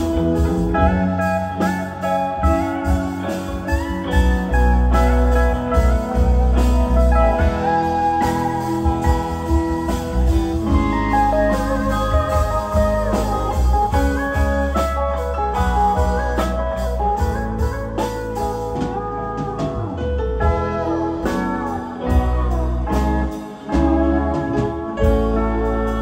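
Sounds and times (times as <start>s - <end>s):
bass: 0.0s - 26.0s
drums: 0.0s - 26.0s
electric guitar: 0.0s - 26.0s
keyboard: 0.0s - 26.0s
pedal steel guitar: 0.0s - 26.0s.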